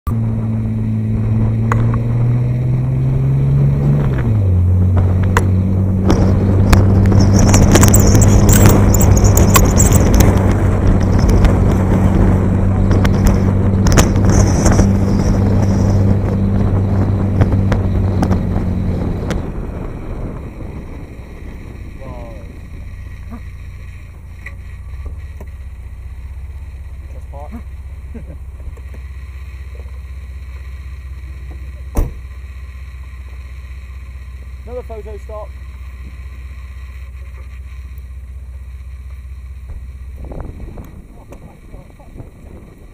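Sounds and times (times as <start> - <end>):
car engine humming: 0.0 - 42.9.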